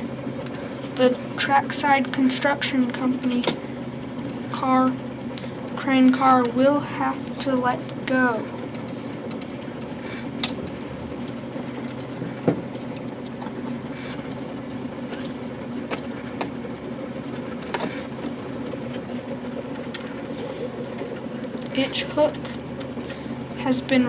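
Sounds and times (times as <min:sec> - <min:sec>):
electric motor hum: 0:00.0 - 0:24.0
light clicks and ticks: 0:01.9 - 0:23.4.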